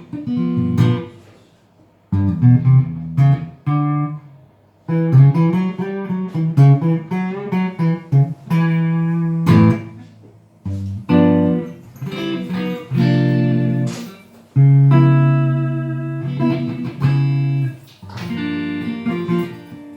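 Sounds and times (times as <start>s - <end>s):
guitar picked notes and chords: 0.0s - 1.3s, 2.1s - 19.9s.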